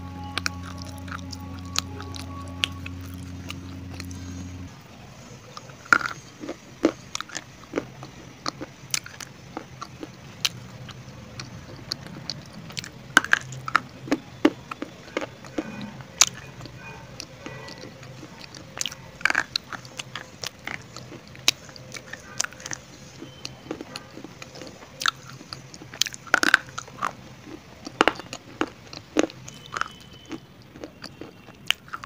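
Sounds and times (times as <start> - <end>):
steady low hum: 0.0 - 27.9
person biting and chewing clay: 5.5 - 32.0.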